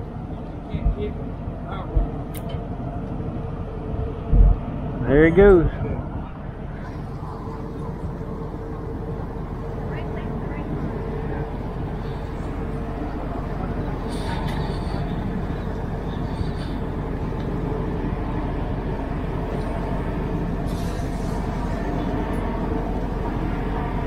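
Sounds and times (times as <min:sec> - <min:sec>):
ship engines rumbling: 0:00.0 - 0:24.0.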